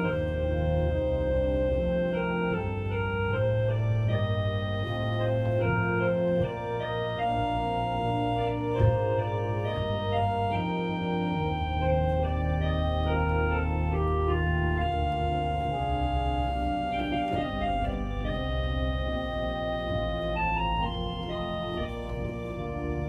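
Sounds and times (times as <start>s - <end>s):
organ playing sustained chords: 0.0s - 23.0s.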